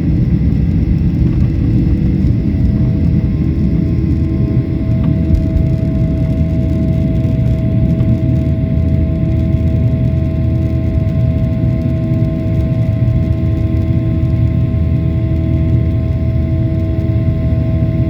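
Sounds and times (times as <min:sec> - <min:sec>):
jet engines low rumble: 0:00.0 - 0:18.0
steady humming tones: 0:00.0 - 0:18.0.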